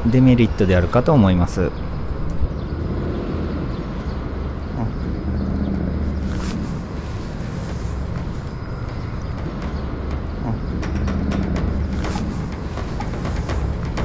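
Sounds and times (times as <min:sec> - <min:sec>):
outdoor background noise: 0:00.0 - 0:14.0
low engine drone: 0:01.7 - 0:14.0.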